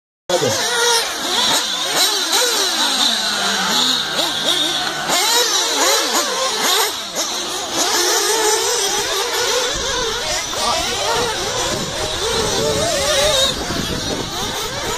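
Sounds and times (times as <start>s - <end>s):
rc buggy engines revving: 0.3s - 14.9s.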